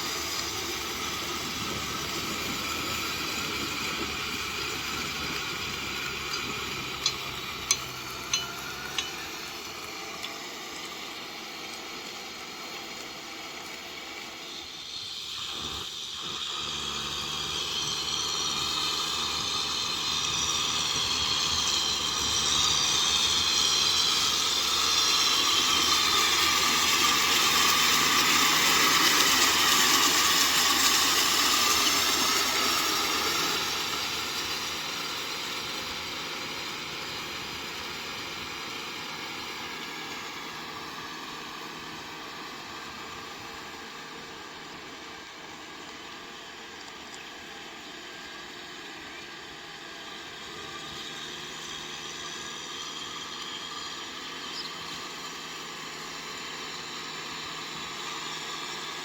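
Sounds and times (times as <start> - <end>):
rotavator working: 0.0 - 59.0
tractor diesel engine running: 0.0 - 59.0.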